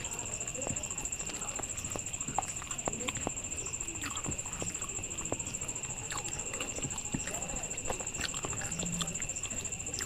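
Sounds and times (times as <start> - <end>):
high-pitched insect trill: 0.0 - 10.0
wet chewing clicks: 0.0 - 10.0.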